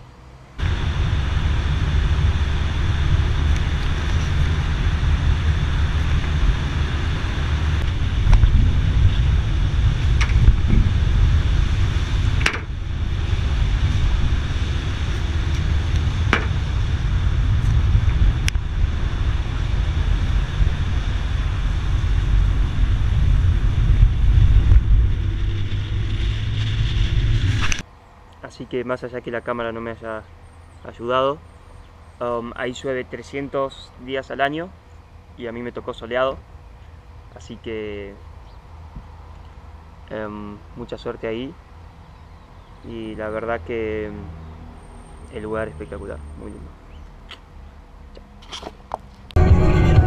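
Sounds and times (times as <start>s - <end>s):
road and engine rumble: 0.0s - 50.0s.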